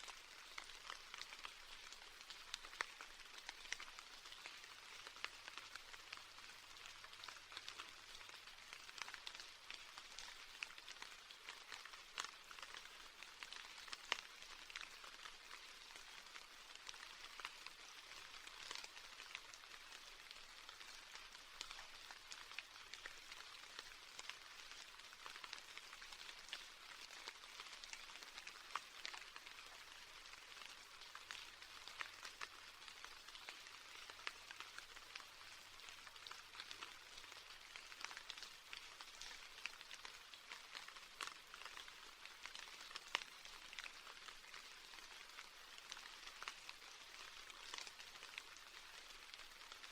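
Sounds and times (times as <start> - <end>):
rain hiss: 0.0 - 49.9
raindrops ticking on a surface: 0.0 - 49.9.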